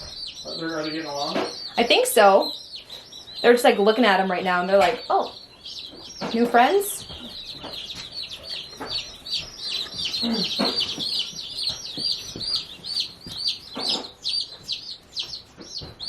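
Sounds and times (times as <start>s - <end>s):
baby chicks peeping: 0.0s - 16.0s.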